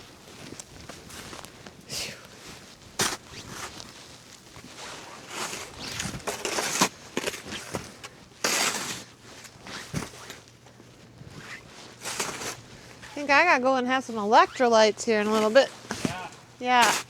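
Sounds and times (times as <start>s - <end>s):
snow crunching and scraping: 0.0s - 17.0s.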